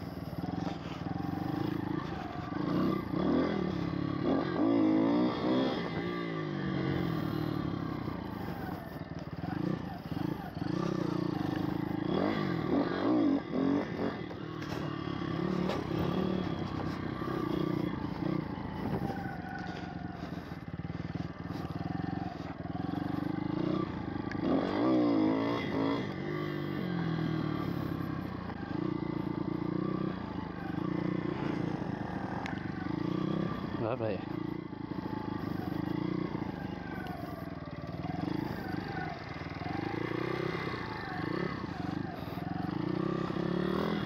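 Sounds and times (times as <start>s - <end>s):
small motorbike engine revving: 0.0s - 44.0s.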